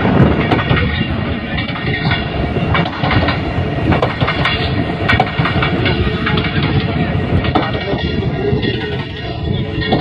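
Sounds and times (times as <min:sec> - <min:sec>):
train rumble: 0:00.0 - 0:10.0
wheels clicking over rail joints: 0:00.0 - 0:10.0.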